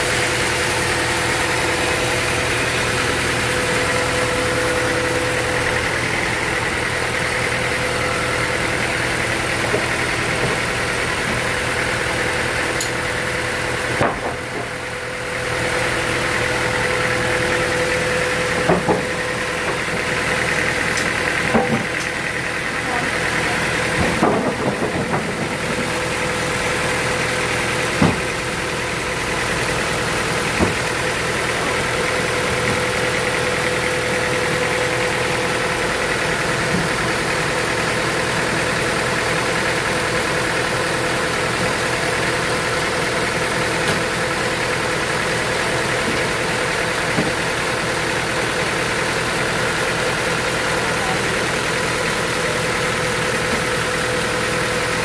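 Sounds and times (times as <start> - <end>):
sawmill machinery whining: 0.0 - 55.0.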